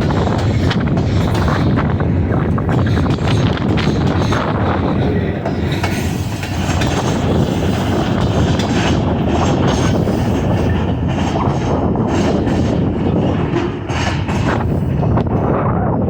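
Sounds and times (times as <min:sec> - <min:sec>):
wheels clicking over rail joints: 0:00.0 - 0:15.5
train wheels rumbling on rail: 0:00.0 - 0:16.0.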